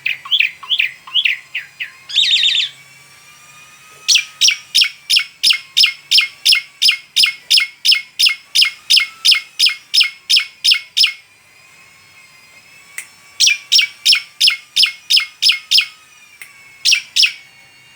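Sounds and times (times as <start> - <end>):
starling calling sharp notes: 0.0 - 11.8, 12.9 - 17.5.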